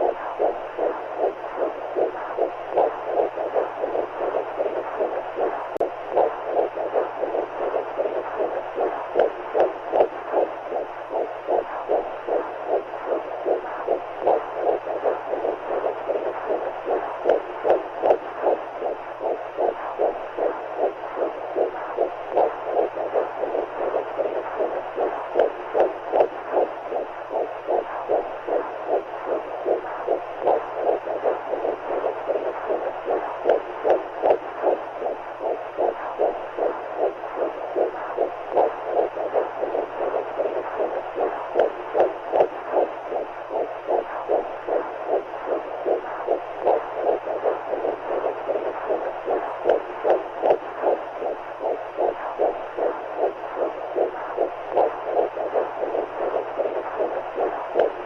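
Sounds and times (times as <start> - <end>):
low hum: 0.0 - 58.0
steady heartbeat: 0.0 - 58.0.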